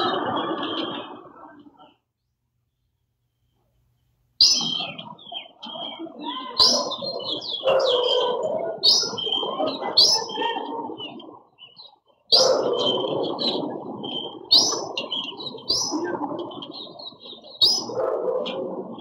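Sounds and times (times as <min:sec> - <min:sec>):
birds chirping: 0:00.0 - 0:03.6, 0:04.4 - 0:18.6.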